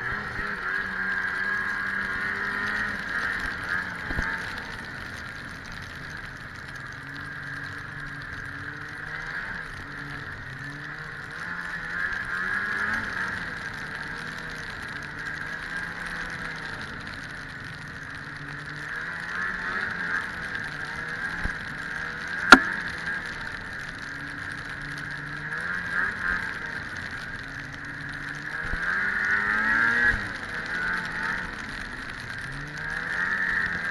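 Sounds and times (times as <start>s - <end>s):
snowmobile engine: 0.0s - 17.1s, 17.7s - 23.5s, 27.8s - 33.9s.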